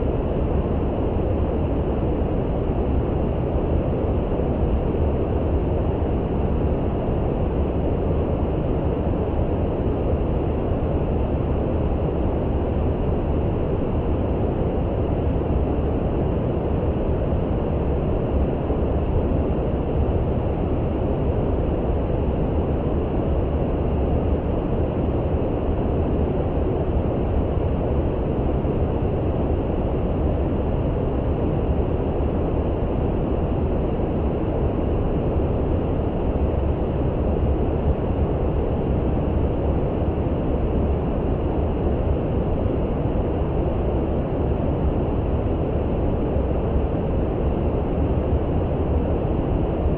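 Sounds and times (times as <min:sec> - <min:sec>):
steady brown noise: 0:00.0 - 0:49.9.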